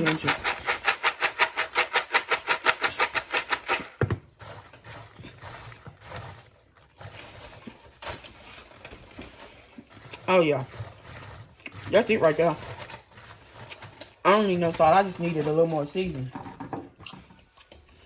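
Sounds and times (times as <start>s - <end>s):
popcorn being shaken: 0.0s - 16.3s
popcorn rustling: 0.0s - 18.0s.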